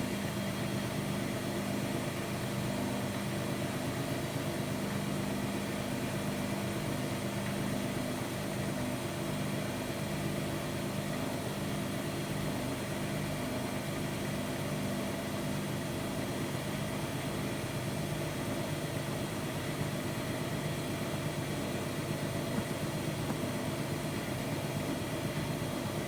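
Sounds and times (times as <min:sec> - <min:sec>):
washer-dryer running: 0:00.0 - 0:26.0.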